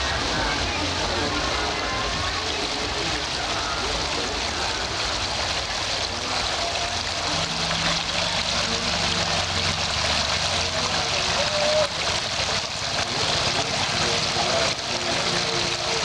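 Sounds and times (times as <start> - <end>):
water splashing onto pebbles: 0.0 - 16.0.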